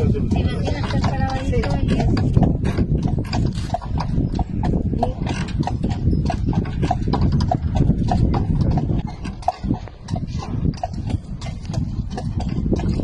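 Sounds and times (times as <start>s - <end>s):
horse hooves clip-clopping: 0.0s - 13.0s
low rumble: 0.0s - 13.0s.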